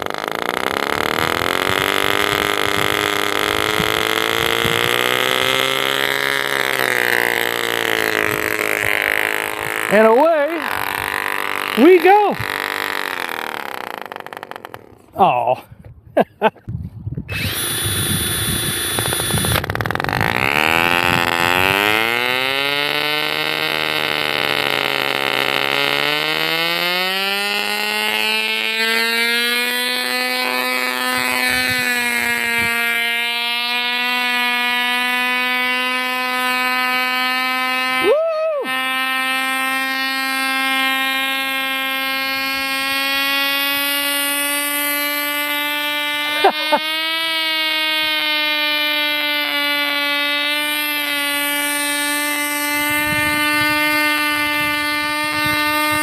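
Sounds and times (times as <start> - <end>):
model engine buzzing: 0.0 - 15.9, 17.2 - 56.0.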